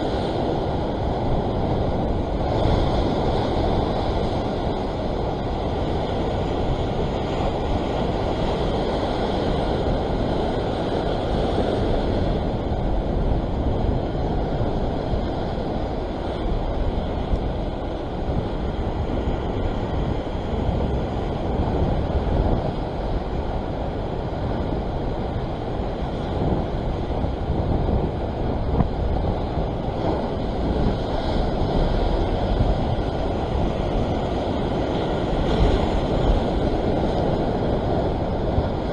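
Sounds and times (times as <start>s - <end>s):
ocean surf churning: 0.0s - 38.9s
wind noise on microphone: 0.0s - 38.9s.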